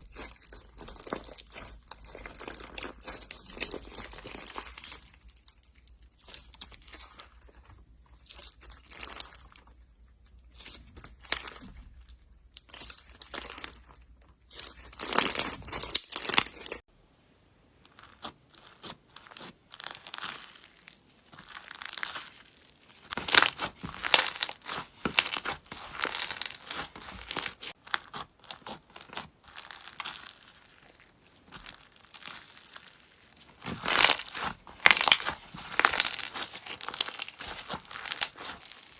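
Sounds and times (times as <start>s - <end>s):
slime crackling and popping: 0.0s - 16.9s, 17.8s - 38.9s.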